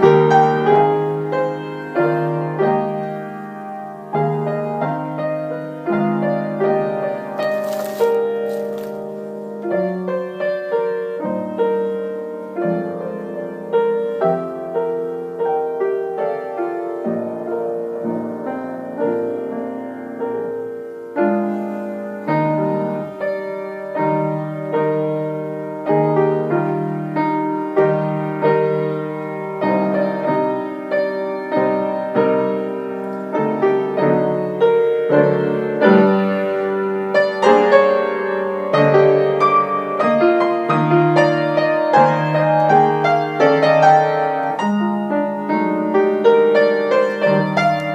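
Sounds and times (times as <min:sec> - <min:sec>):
solo piano music: 0:00.0 - 0:47.9.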